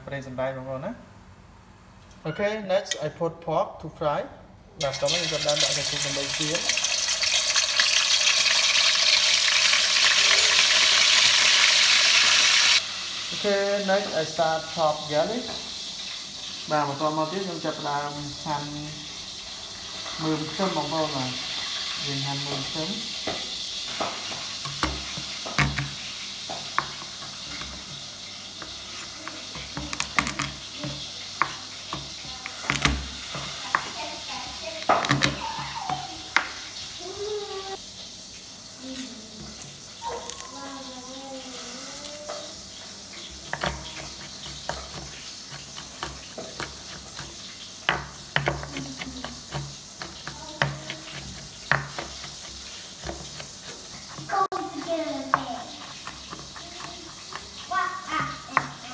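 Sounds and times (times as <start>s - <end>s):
meat sizzling in oil: 4.8s - 58.9s.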